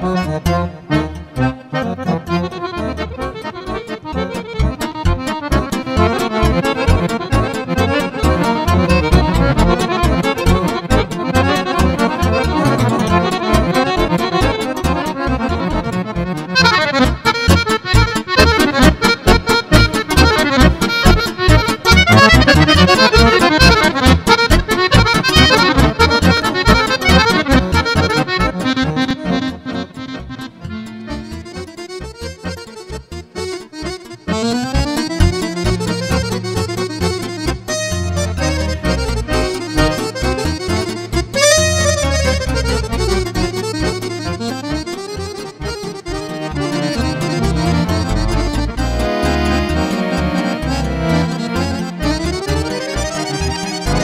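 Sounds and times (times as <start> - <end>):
accordion playing folk music: 0.0 - 54.0.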